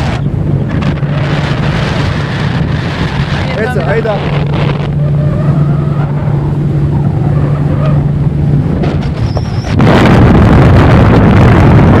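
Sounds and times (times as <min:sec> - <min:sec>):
engine humming: 0:00.0 - 0:11.1
wind rush on microphone: 0:00.0 - 0:12.0.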